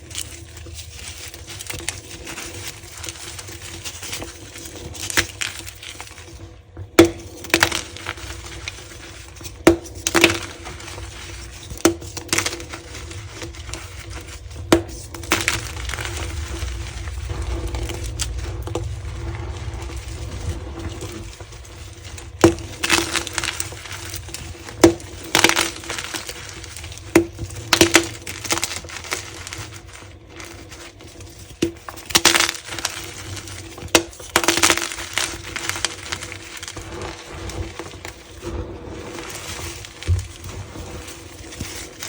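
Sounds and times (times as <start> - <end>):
chalk blocks snapping and crumbling: 7.0 - 42.0.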